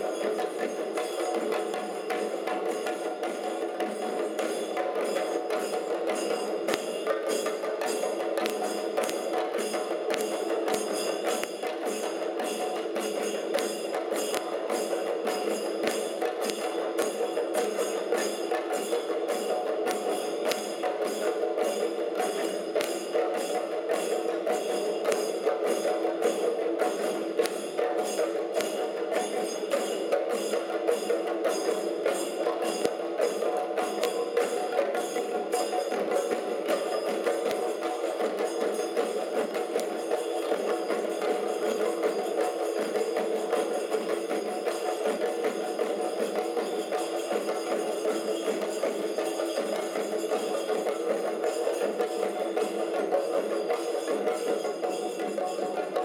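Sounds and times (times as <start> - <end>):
drums beaten with sticks: 0.0 - 56.0.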